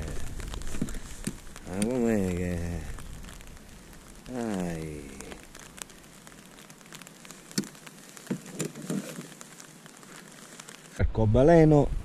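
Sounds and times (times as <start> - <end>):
raindrops ticking: 0.0 - 11.0
light rain hissing: 0.0 - 12.0.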